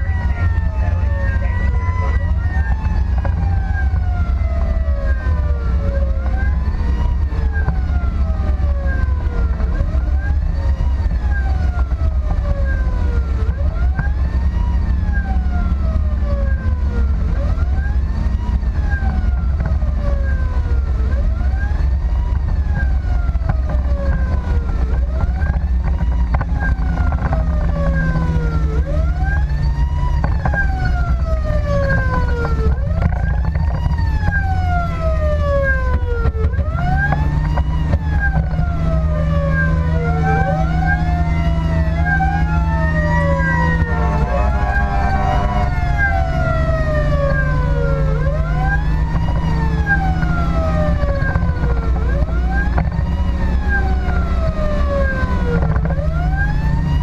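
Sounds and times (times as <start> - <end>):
engine and road rumble: 0.0 - 57.0
siren wailing: 0.0 - 57.0.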